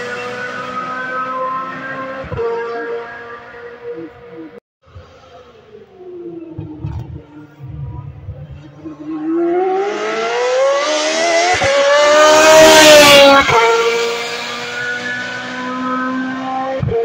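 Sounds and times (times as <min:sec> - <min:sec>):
race car engine passing: 0:00.0 - 0:17.0.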